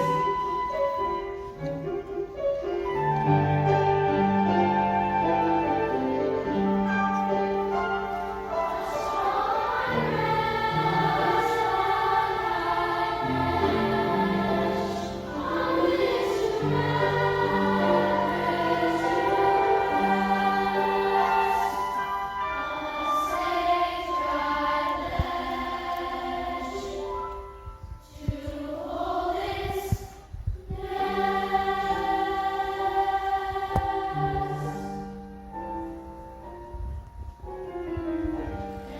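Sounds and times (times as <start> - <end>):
piano accompaniment: 0.0 - 29.7, 30.6 - 38.9
children's choir singing: 0.0 - 36.2, 37.5 - 38.9.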